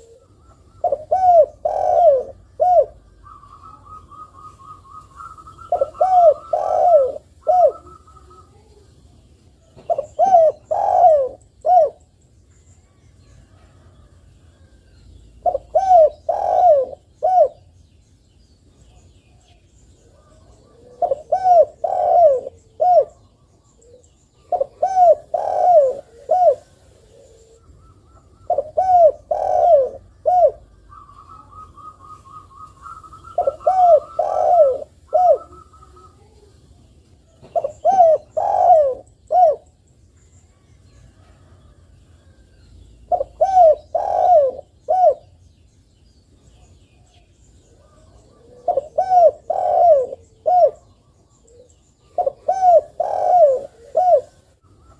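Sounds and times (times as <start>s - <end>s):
dove cooing: 0.0s - 8.8s, 9.6s - 12.1s, 15.4s - 17.7s, 19.4s - 36.6s, 37.3s - 39.8s, 43.0s - 45.4s, 46.6s - 54.9s.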